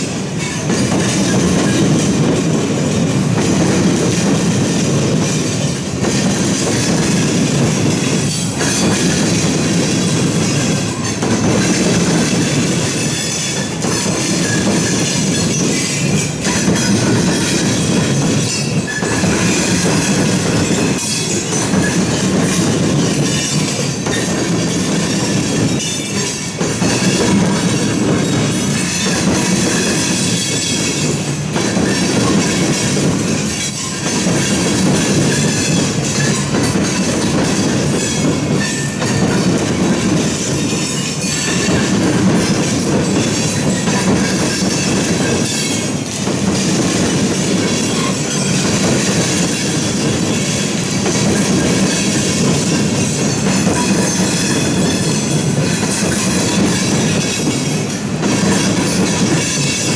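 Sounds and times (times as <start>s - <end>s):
train rumbling on rails: 0.0s - 59.9s
train wheel clicks: 0.0s - 59.9s.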